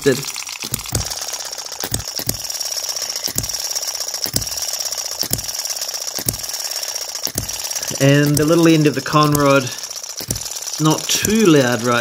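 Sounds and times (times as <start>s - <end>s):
fast light mechanical ticking: 0.0s - 12.0s
small petrol engine popping: 0.0s - 12.0s
light engine knock: 0.5s - 2.6s, 3.2s - 12.0s.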